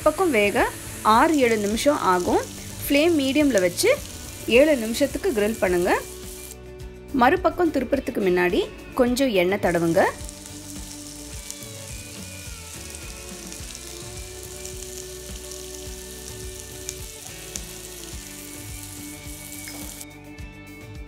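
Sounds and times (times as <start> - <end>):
chicken sizzling in oil: 0.0 - 6.6, 9.7 - 20.1.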